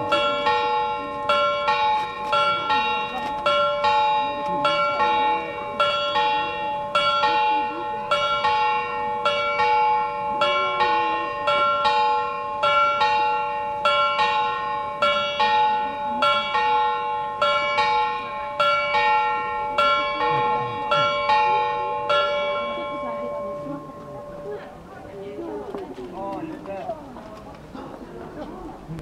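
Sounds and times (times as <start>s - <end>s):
clock bells chiming: 0.0s - 24.6s.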